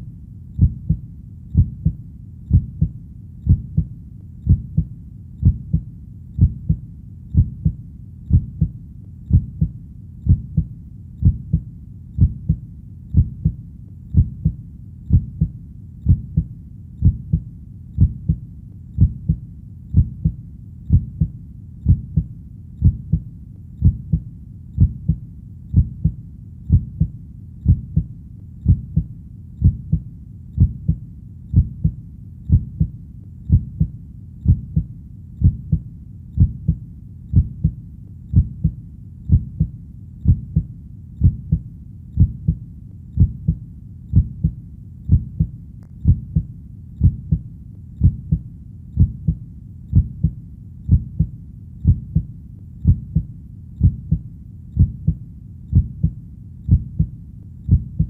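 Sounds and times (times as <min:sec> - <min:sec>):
faint background hiss: 0:00.0 - 0:58.0
heartbeat thumps: 0:00.6 - 0:18.4, 0:19.0 - 0:58.0.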